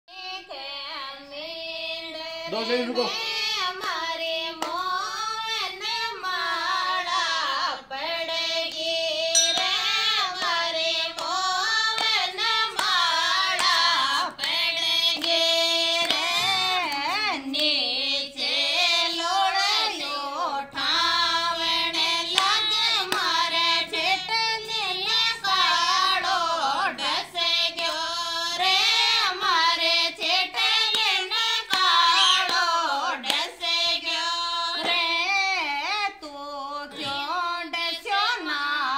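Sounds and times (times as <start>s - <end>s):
women singing folk song: 0.1s - 38.9s.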